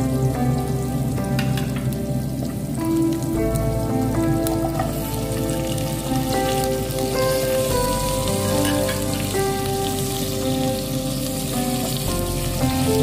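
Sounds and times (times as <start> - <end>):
instrumental background music: 0.0 - 13.0
vegetables sizzling in oil: 0.0 - 13.0.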